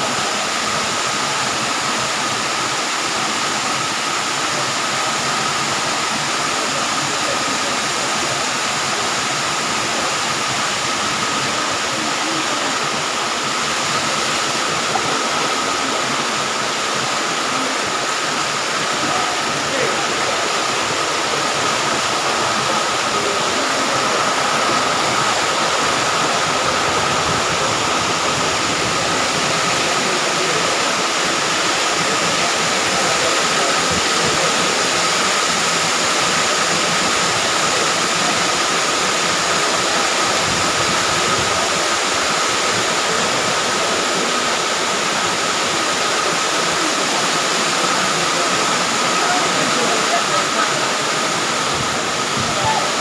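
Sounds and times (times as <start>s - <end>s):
rushing floodwater: 0.0s - 53.0s.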